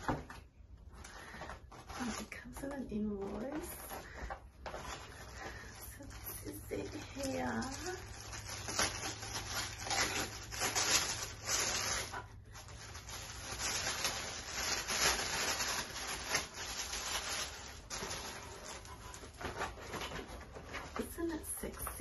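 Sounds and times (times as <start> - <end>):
tissue paper rustling: 0.9 - 22.0.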